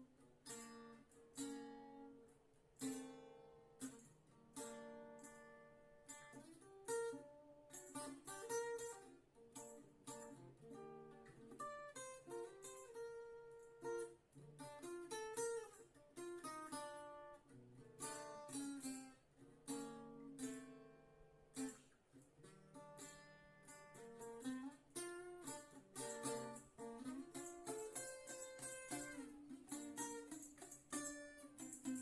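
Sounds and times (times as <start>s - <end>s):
acoustic guitar melody: 0.0s - 32.0s.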